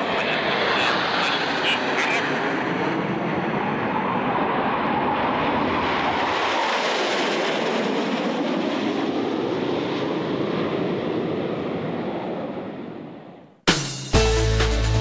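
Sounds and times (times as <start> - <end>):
jet engines roaring past: 0.0 - 13.5.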